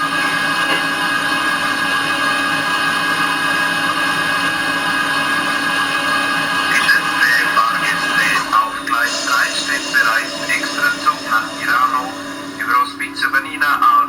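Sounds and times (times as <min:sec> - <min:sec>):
electric locomotive whine from speaker: 0:00.0 - 0:14.0.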